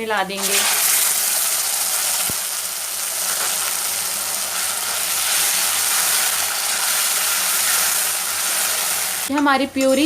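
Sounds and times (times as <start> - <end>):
puree sizzling in hot oil: 0.4 - 9.3.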